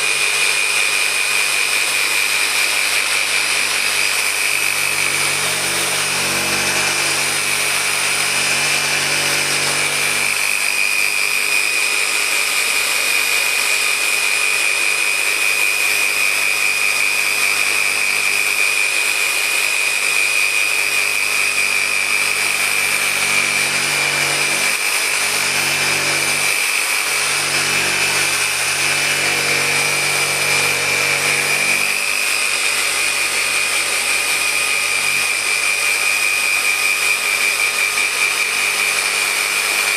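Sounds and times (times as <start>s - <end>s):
polisher whining: 0.0s - 39.9s.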